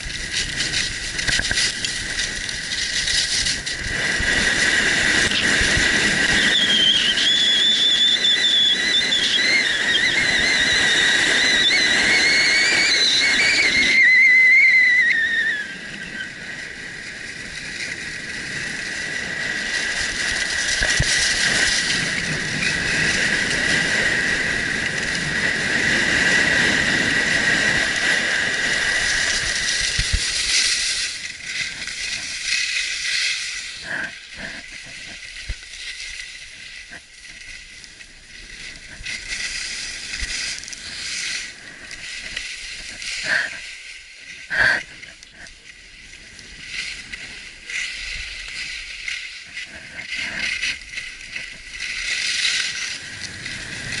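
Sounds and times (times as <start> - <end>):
ski edges scraping: 0.0 - 8.2, 16.0 - 54.0
skis running on packed snow: 0.0 - 54.0
wind on microphone: 0.0 - 54.0.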